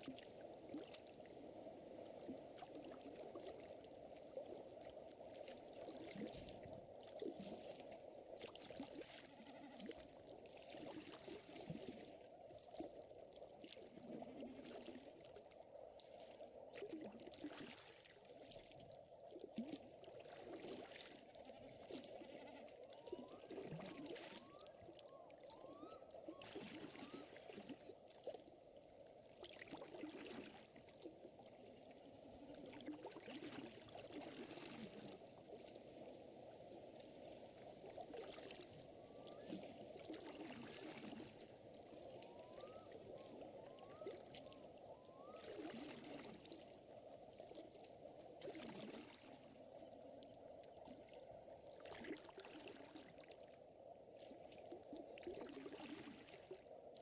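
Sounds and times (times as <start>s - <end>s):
water trickling and lapping: 0.0s - 57.0s.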